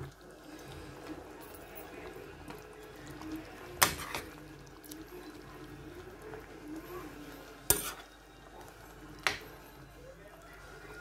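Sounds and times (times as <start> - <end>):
cream sauce bubbling: 0.0 - 11.0
spoon stirring in pan: 0.0 - 11.0.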